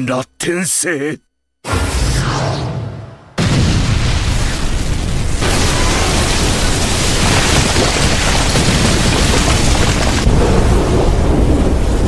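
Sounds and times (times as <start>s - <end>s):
explosive roar: 1.7s - 12.0s.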